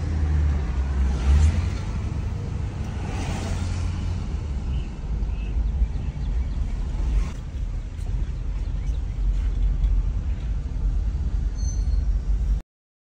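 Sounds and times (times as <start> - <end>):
car rumbling on the move: 0.0 - 12.6.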